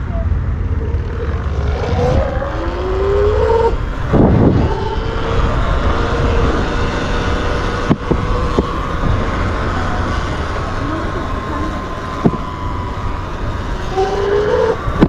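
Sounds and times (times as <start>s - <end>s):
electric motor whining: 0.0s - 15.0s
wind gust: 0.0s - 15.0s
wind rumble on microphone: 0.0s - 15.0s.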